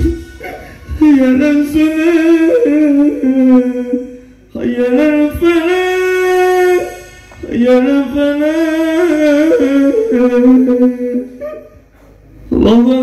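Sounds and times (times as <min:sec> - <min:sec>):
man chanting melismatically: 0:00.0 - 0:11.8, 0:12.5 - 0:13.0.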